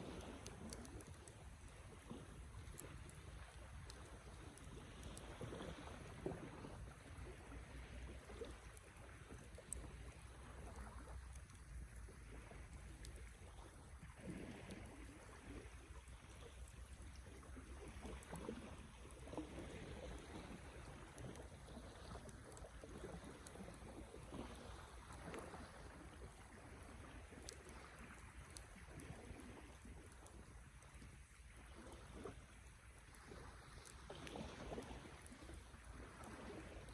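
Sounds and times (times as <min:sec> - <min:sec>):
campfire crackling: 0:00.0 - 0:33.2.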